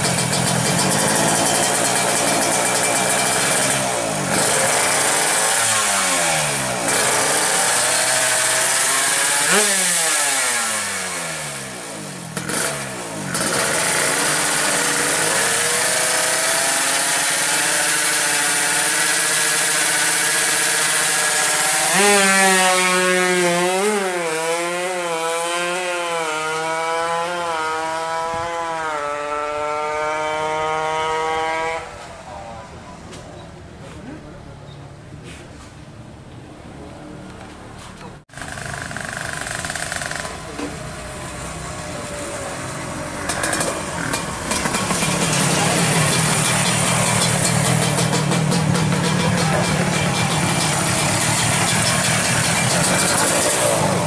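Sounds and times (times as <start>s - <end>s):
motorcycle engine revving and accelerating: 0.0s - 32.6s, 38.3s - 54.0s.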